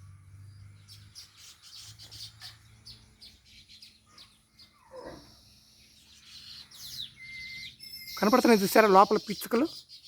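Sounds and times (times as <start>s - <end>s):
weaver birds chirping: 0.0s - 10.0s.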